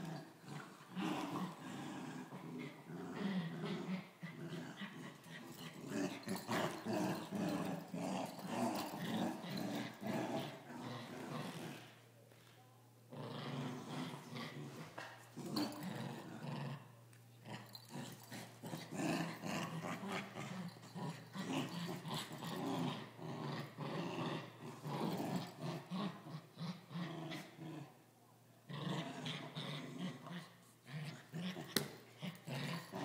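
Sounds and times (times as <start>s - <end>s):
dogs growling in play: 0.0s - 12.0s, 13.0s - 33.0s.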